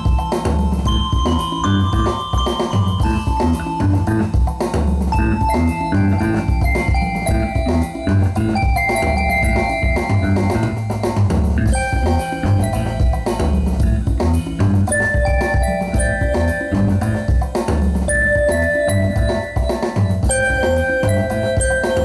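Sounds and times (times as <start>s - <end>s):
bass line: 0.0s - 22.0s
drum kit beat: 0.0s - 22.0s
sustained melody notes: 0.0s - 22.0s.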